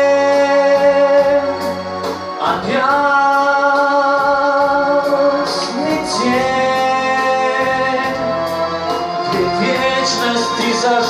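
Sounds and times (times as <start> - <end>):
person singing long gliding notes: 0.0 - 11.0
sustained accompaniment: 0.0 - 11.0.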